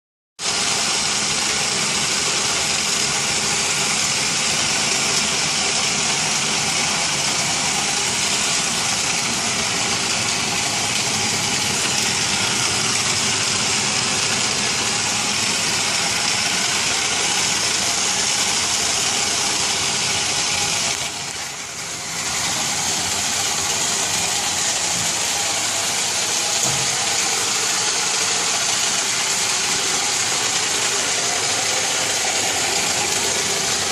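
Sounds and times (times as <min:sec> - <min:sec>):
robotic vacuum whirring: 0:06.4 - 0:33.9.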